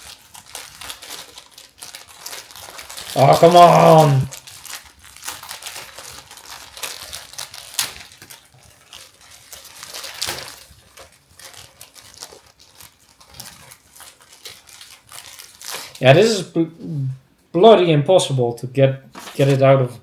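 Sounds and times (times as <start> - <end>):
plastic bag crinkling: 0.0 - 16.5, 19.1 - 20.0.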